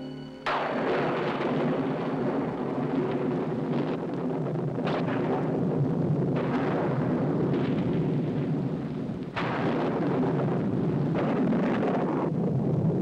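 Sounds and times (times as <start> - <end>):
thunder rumbling: 0.0 - 13.0
sharp thunder claps: 0.4 - 13.0.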